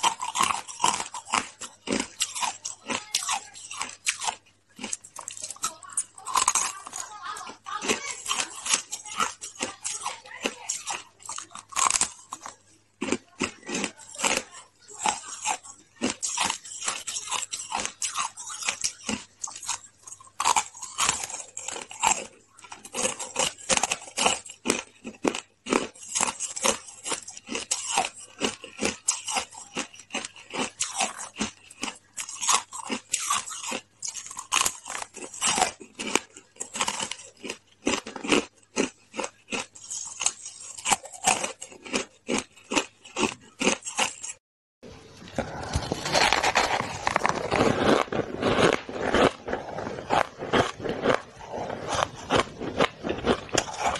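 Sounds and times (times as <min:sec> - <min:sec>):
crunching and chewing ice: 0:00.0 - 0:44.4, 0:45.2 - 0:53.9.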